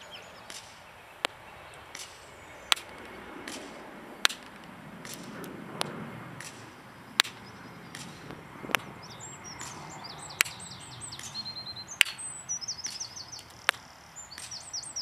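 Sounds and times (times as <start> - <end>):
birds chirping: 0.0 - 15.0
bb pistol firing sharp cracks: 0.4 - 14.7.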